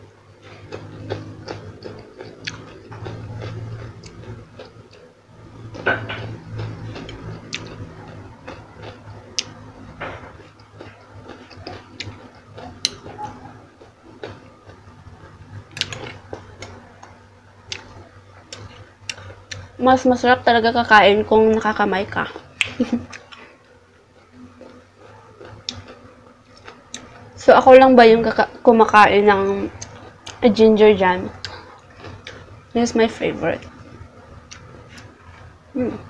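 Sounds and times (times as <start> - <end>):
crunchy chewing of raw vegetables: 0.0 - 20.1, 21.5 - 28.6, 29.3 - 32.9, 33.6 - 36.0.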